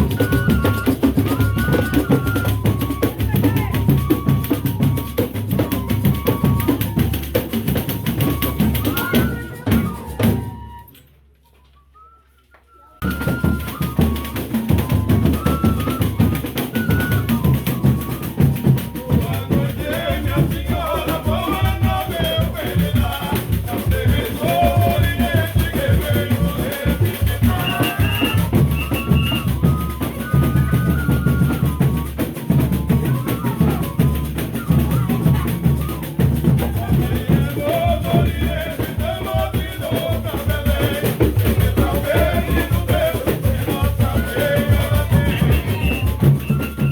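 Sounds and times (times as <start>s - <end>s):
fast drumming: 0.0s - 10.6s, 13.0s - 46.9s
folk band melody: 0.0s - 46.9s.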